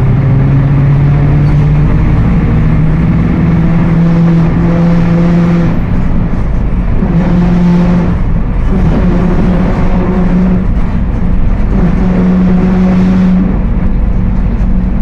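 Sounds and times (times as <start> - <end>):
bus differential droning: 0.0 - 15.0
bus running noise: 0.0 - 15.0.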